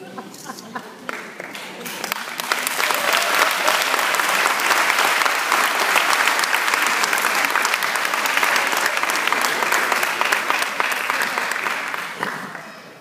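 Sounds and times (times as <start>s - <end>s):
audience applause: 1.0s - 13.0s.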